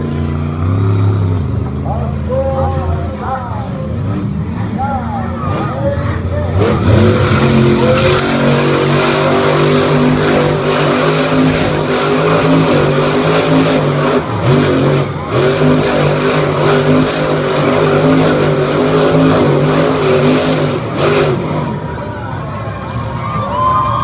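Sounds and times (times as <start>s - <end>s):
truck engine revving loudly: 0.0s - 23.2s.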